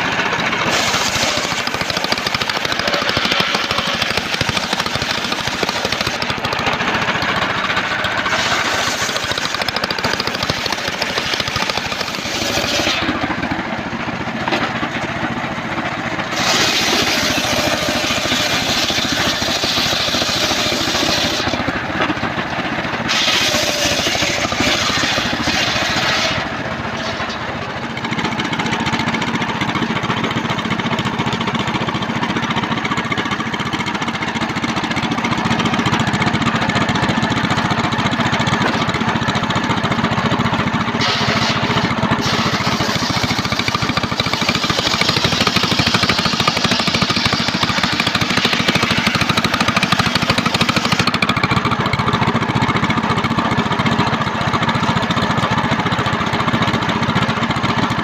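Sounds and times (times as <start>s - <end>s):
saw blade cutting timber: 0.0s - 15.1s, 15.8s - 39.8s, 40.8s - 55.8s
sawmill engine drone: 0.0s - 58.0s.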